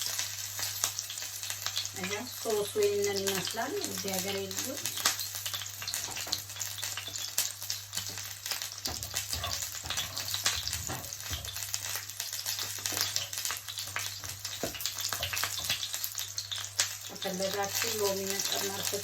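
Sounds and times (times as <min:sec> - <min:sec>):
fish sizzling in frying pan: 0:00.0 - 0:19.0.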